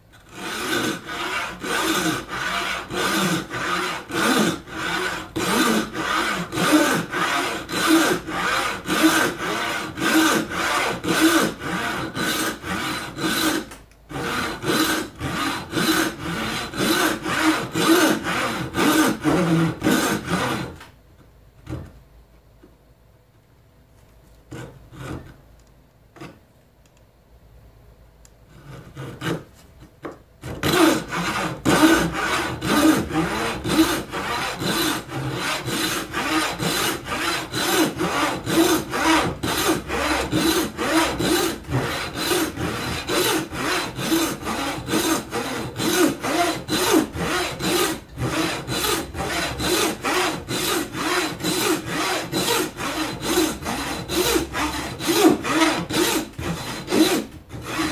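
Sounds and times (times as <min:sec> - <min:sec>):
hand saw cutting wood: 0:00.3 - 0:20.8, 0:28.5 - 0:29.5, 0:30.4 - 0:57.9.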